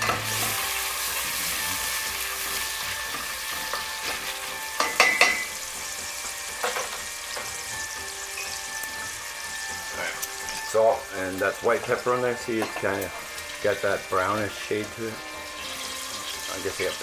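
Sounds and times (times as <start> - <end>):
bacon sizzling in a pot: 0.0 - 17.0.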